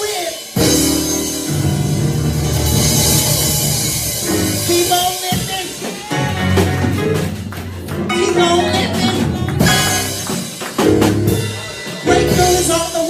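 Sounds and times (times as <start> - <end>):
band playing bass keyboard drums: 0.0 - 13.0.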